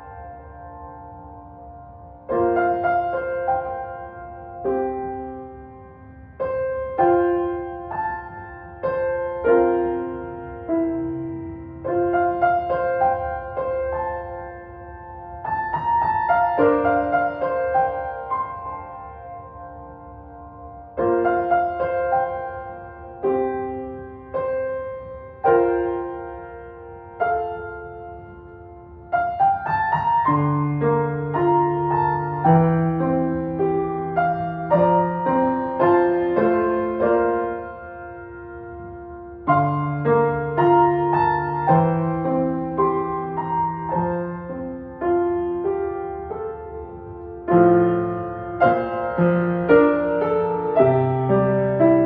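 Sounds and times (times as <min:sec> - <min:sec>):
solo piano piece: 0:00.0 - 0:52.0.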